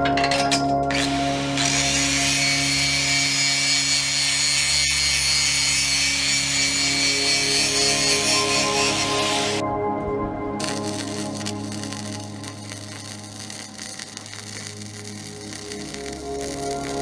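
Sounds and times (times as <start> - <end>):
angle grinder cutting steel: 0.3 - 9.6, 10.6 - 17.0.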